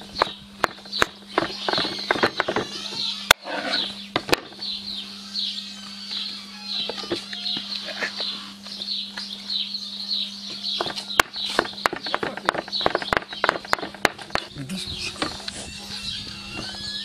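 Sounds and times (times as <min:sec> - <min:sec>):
birds chirping: 0:00.0 - 0:17.0
low steady hum: 0:00.0 - 0:17.0.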